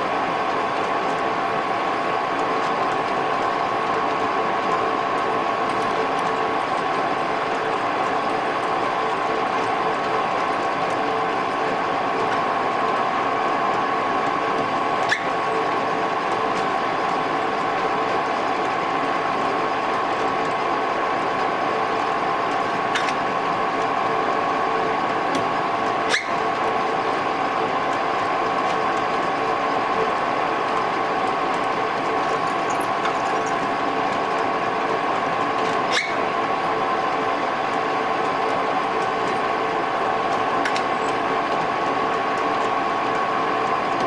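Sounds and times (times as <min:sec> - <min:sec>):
metal lathe whining: 0:00.0 - 0:44.0.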